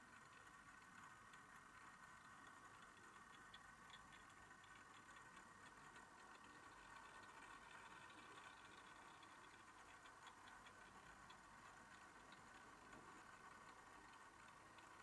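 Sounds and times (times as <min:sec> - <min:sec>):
light irregular ticks: 0:00.0 - 0:15.0.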